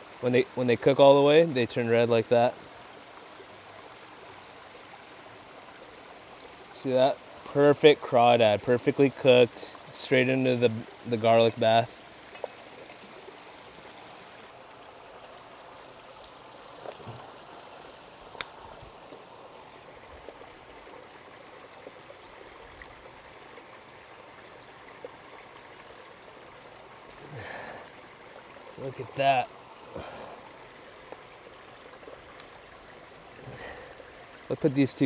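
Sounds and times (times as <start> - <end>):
stream water flowing: 0.0 - 35.0.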